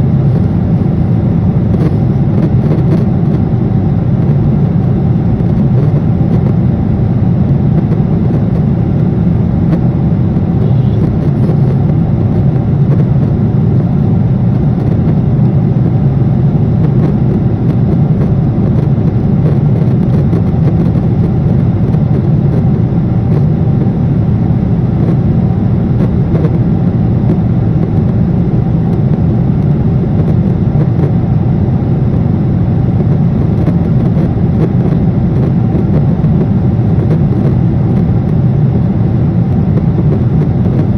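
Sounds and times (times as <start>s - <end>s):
airliner cabin jet engine rush: 0.0s - 40.9s.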